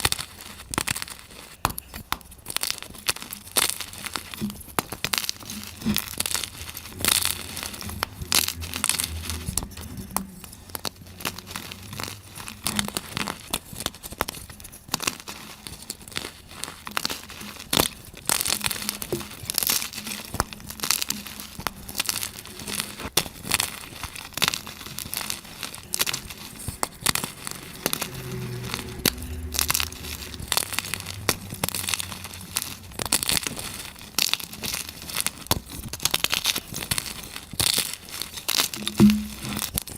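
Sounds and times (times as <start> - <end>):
chalk being crushed: 0.0 - 39.9.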